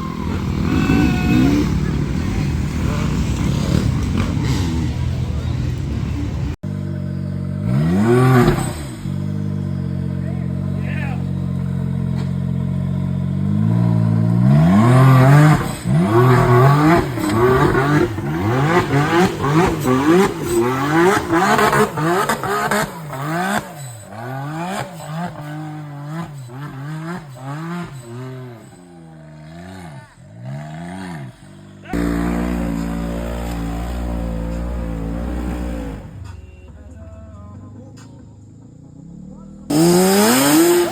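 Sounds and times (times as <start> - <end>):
small dirt bike engine revving: 0.0 - 36.4, 39.6 - 40.9.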